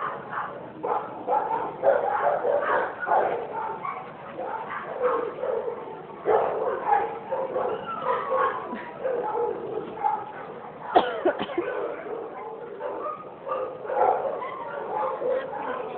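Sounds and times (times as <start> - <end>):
dog barking and yipping: 0.0 - 15.9.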